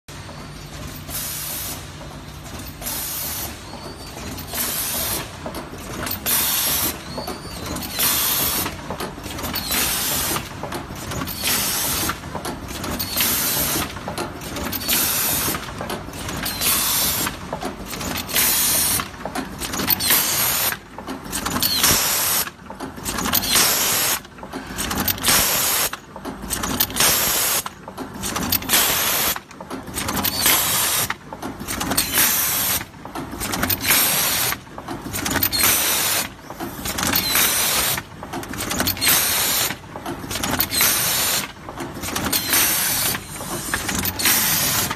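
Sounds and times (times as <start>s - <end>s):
packaging machine running: 0.1s - 44.9s.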